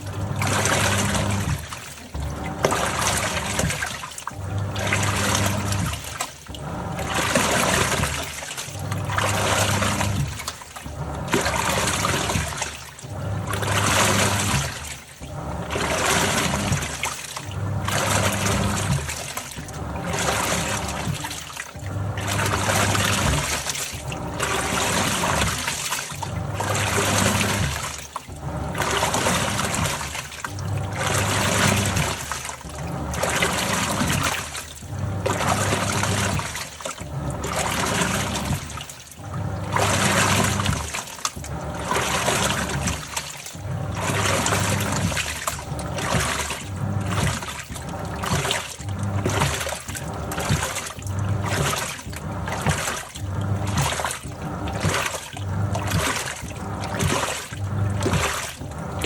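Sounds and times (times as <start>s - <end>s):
low motor hum: 0.0s - 59.0s
water churning in washing machine: 0.0s - 59.0s.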